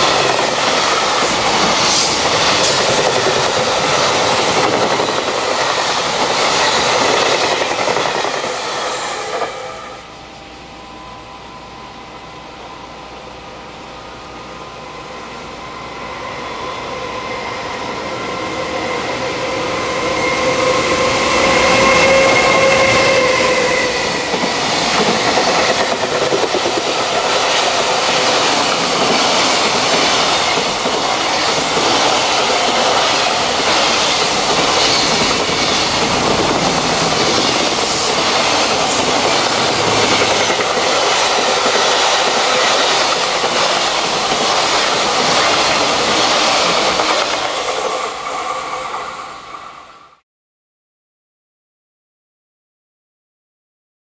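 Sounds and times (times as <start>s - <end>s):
electric locomotive whine: 0.0s - 50.2s.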